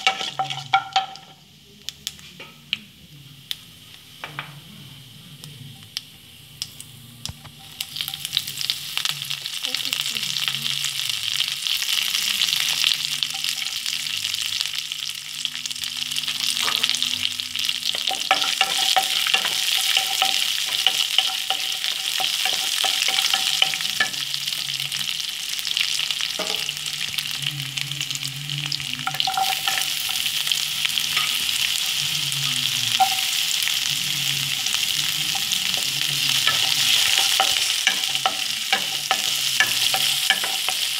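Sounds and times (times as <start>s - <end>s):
hot oil sizzling: 0.0s - 40.9s.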